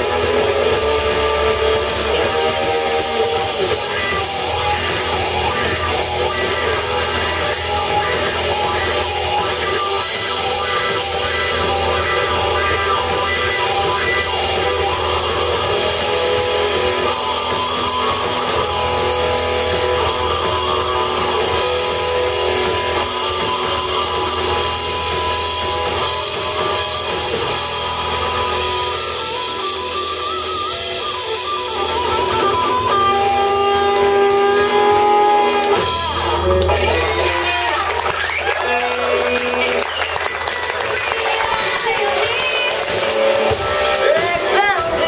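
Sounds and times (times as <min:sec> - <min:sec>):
drums: 0:00.0 - 0:45.0
electric guitars: 0:00.0 - 0:45.0
live rock band playing: 0:00.0 - 0:45.0.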